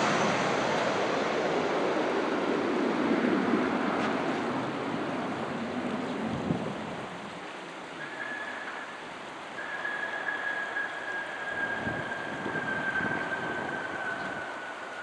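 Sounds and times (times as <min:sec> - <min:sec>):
jet engine roar: 0:00.0 - 0:07.3, 0:09.6 - 0:15.0.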